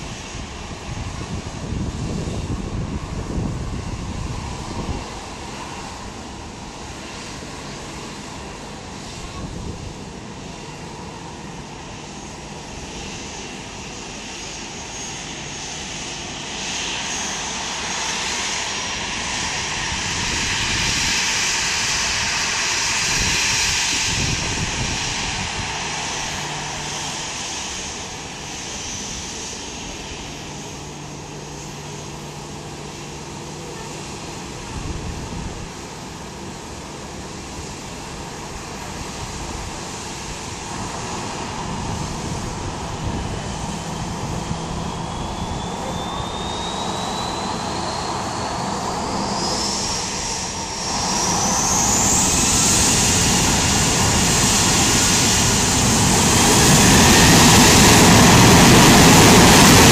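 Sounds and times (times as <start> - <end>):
jet engines whining at low thrust: 0.0 - 59.9.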